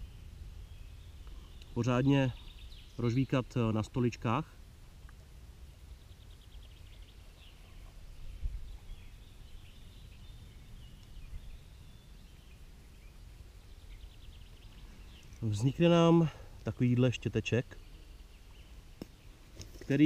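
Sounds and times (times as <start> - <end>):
faint distant birdsong: 0.0 - 20.0.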